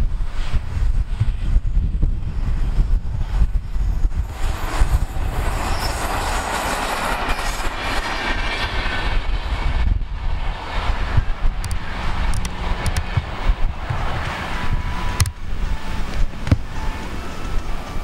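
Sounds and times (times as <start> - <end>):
wind buffeting microphone: 0.0 - 18.0
train wheels rattling on rails: 1.1 - 18.0.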